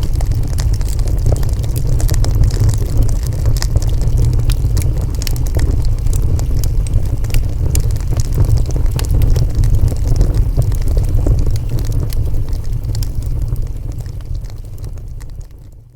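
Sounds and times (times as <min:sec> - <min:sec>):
low rumble of fire: 0:00.0 - 0:15.9
wood fire crackling and popping: 0:00.0 - 0:15.9.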